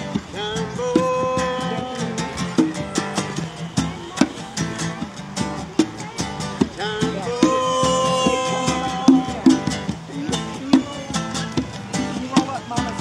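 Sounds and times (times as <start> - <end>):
hand drum beats: 0.0 - 13.0
strummed acoustic guitar: 0.0 - 13.0.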